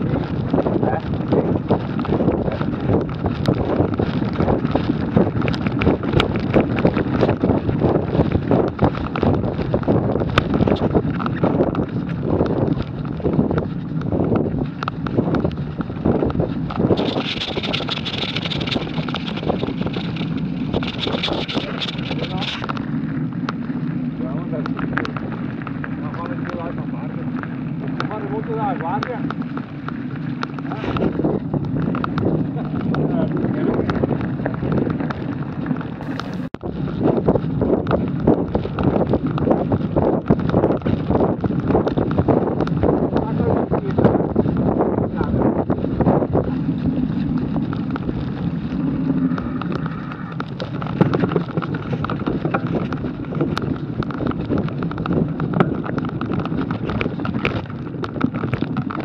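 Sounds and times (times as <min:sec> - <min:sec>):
bike rattling: 0:00.0 - 0:59.0
bike tyres rolling through leaves: 0:00.0 - 0:59.0
wind buffeting microphone: 0:00.0 - 0:59.0.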